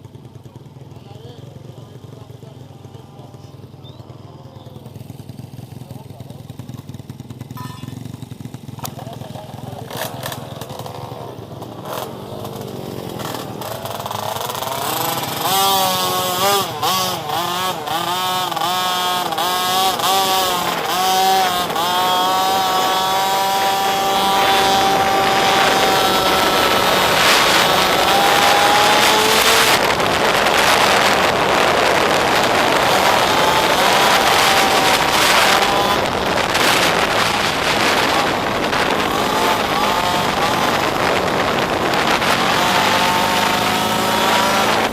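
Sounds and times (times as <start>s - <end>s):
motorbike engine revving: 0.0s - 44.9s.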